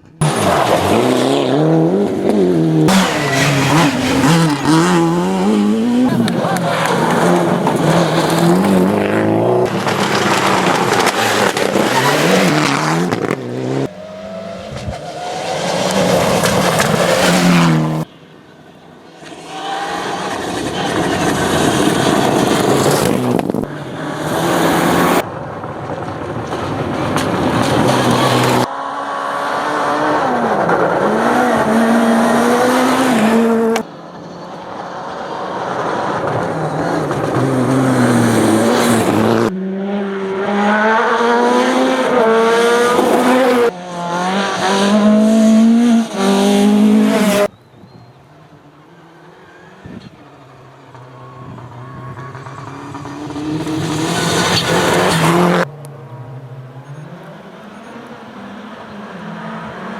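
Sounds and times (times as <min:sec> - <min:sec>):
rally car engines at full throttle: 0:00.0 - 0:59.9.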